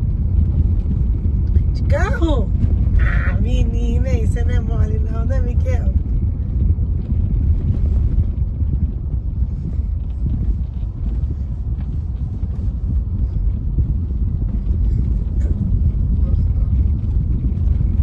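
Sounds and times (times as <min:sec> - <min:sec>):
car engine: 0:00.0 - 0:18.0.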